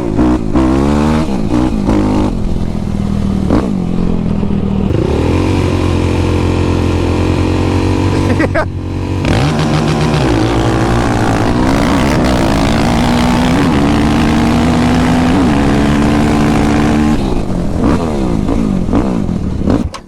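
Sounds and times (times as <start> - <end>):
atv engine revving hard: 0.0 - 4.0, 4.8 - 20.0.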